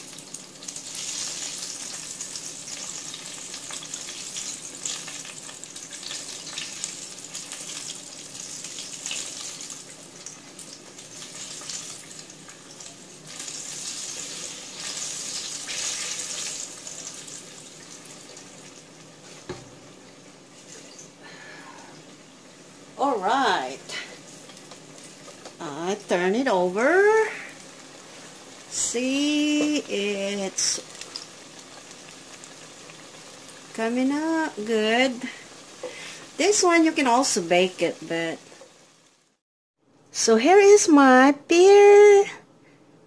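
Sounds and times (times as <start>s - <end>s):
pies frying in oil: 0.0s - 39.4s.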